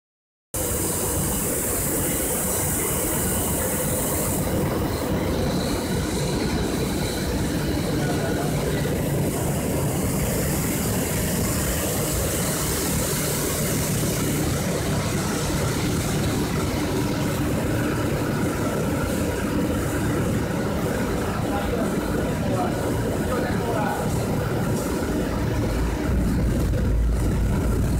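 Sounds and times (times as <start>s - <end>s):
recycling machine drone: 0.6s - 27.9s.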